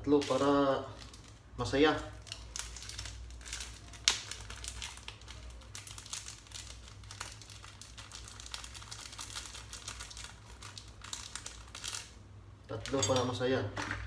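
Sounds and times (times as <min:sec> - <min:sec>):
plastic sachet crinkling: 0:00.0 - 0:14.0.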